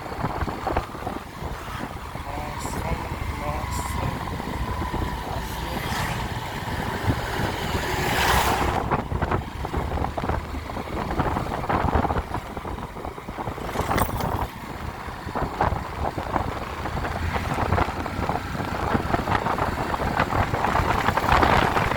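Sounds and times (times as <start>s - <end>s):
motorcycle engine running: 0.0s - 7.9s, 8.8s - 21.9s
wind buffeting microphone: 0.0s - 21.9s.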